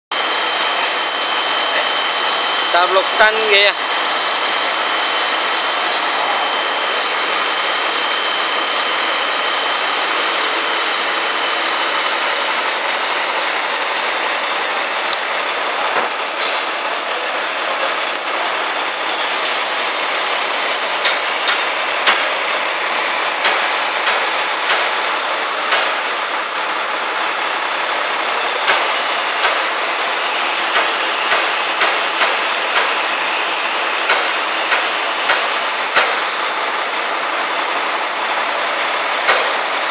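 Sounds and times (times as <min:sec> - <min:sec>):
truck engine driving hydraulics: 0:00.1 - 0:39.9.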